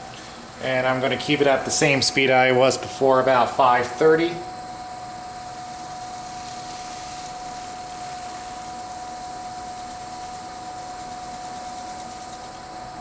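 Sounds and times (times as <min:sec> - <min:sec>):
cloth buffing spinning wood: 0:00.0 - 0:13.0
wood lathe motor whine: 0:00.0 - 0:13.0.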